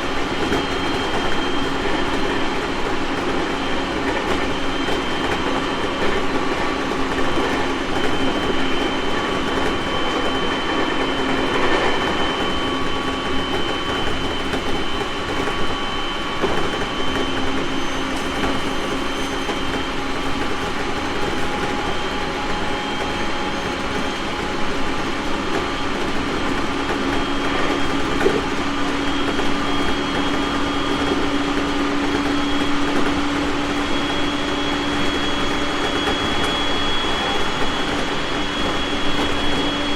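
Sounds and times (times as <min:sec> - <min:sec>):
train motor whine: 0:00.0 - 0:39.9
train wheels rumbling on track: 0:00.0 - 0:39.9.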